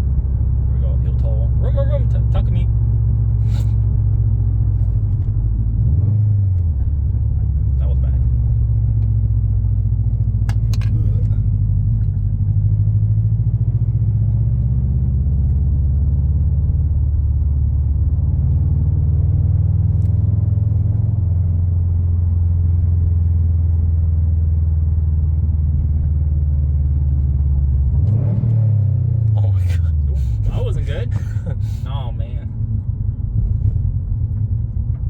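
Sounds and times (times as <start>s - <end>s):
car engine droning: 0.0s - 35.0s.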